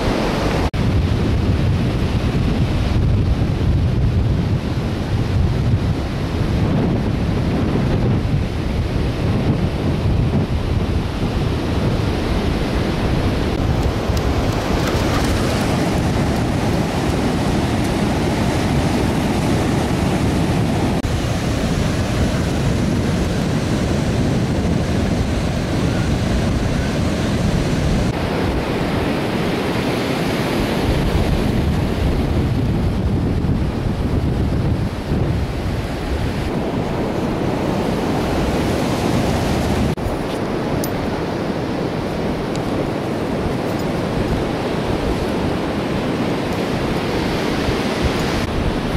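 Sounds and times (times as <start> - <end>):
ocean surf breaking: 0.0 - 48.9
wind buffeting microphone: 0.0 - 48.9.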